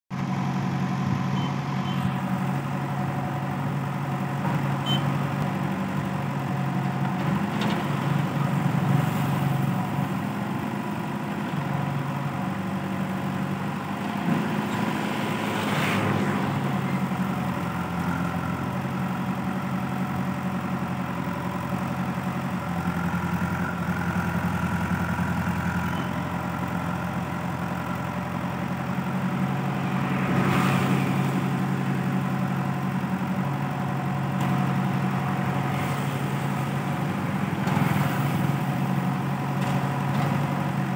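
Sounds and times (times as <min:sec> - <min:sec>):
diesel engines running: 0:00.1 - 0:40.9.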